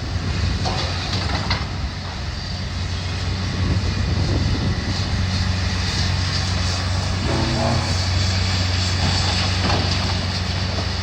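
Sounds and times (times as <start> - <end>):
heavy machinery engine humming: 0.0 - 11.0.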